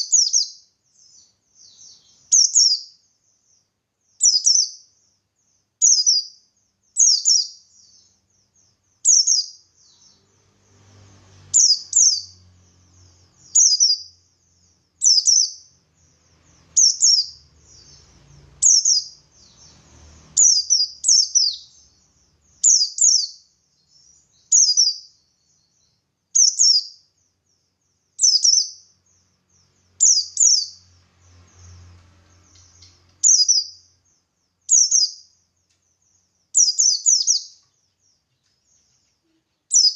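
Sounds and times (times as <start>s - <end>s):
bird singing high phrases: 0.0s - 39.9s
soft bird twittering: 0.0s - 39.9s.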